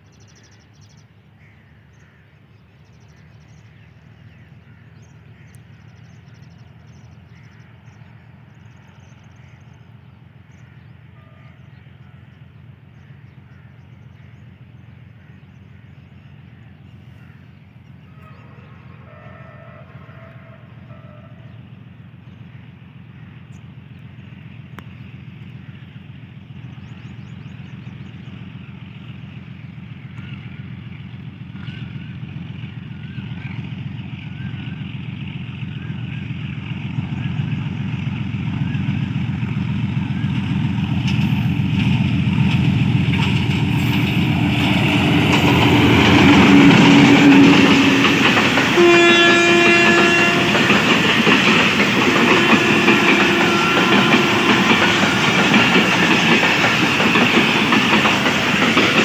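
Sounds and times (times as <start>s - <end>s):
bird calls: 0.0s - 35.0s, 40.0s - 59.0s
diesel locomotive engine drone: 0.0s - 59.0s.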